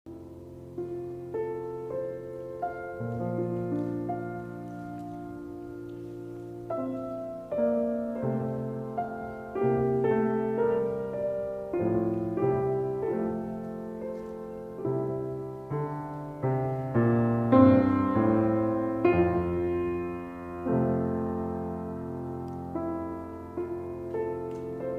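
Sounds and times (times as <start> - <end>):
gentle piano music: 0.1 - 24.9.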